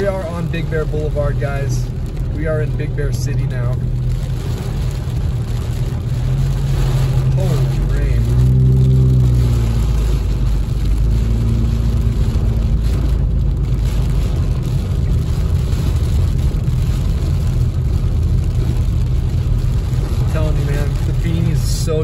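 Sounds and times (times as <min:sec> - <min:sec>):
car engine and tyres droning: 0:00.0 - 0:22.0
rain and road spray hissing: 0:00.0 - 0:22.0.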